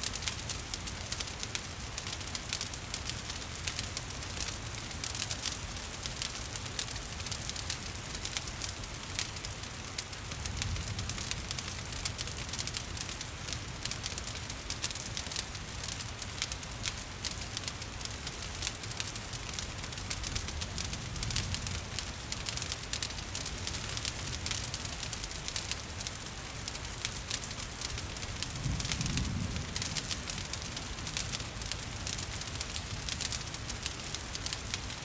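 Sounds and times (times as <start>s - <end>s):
gentle rain: 0.0s - 35.0s
wood fire crackling: 0.0s - 35.0s.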